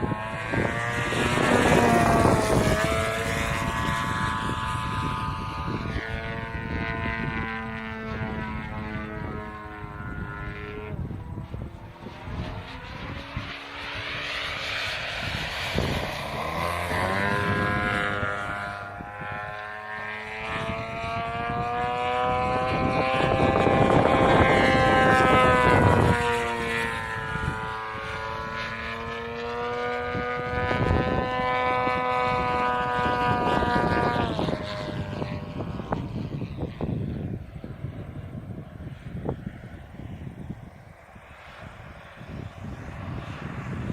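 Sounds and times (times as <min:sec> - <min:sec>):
model plane engine in flight: 0:00.0 - 0:43.9.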